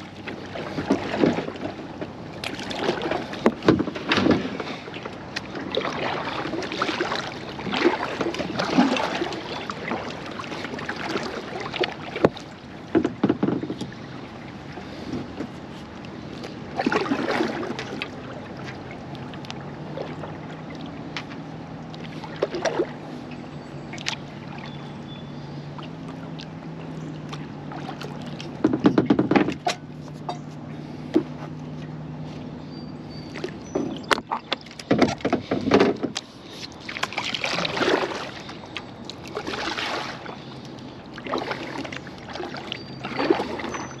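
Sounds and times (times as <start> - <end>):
low steady hum: 0.0 - 44.0
paddle splashing in water: 0.0 - 44.0.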